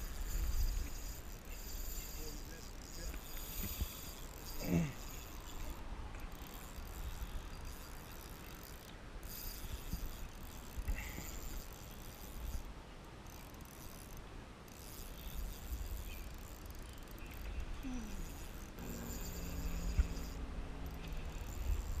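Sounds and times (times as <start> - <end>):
fishing reel whirring: 0.0 - 22.0.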